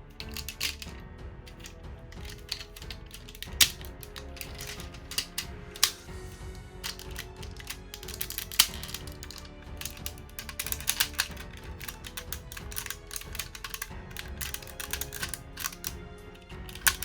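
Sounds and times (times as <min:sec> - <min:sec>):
plastic piece snapping: 0:00.2 - 0:00.9, 0:01.5 - 0:17.0
plastic toy parts clicking: 0:00.2 - 0:00.9, 0:01.5 - 0:17.0.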